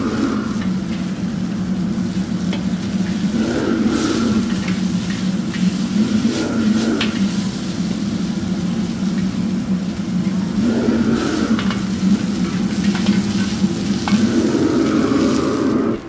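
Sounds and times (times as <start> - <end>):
meat sizzling in a wok: 0.0 - 15.8
gas burner drone: 0.0 - 16.0.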